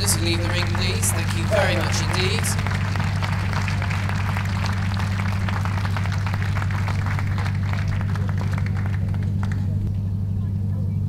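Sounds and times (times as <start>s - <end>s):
audience applauding: 0.0s - 9.8s
steady low hum: 0.0s - 11.0s.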